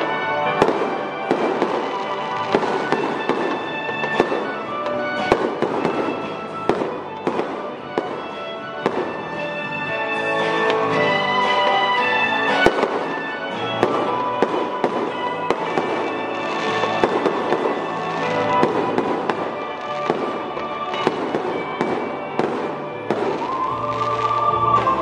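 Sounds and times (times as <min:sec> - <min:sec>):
fireworks banging and crackling: 0:00.0 - 0:25.0
music playing: 0:00.0 - 0:25.0.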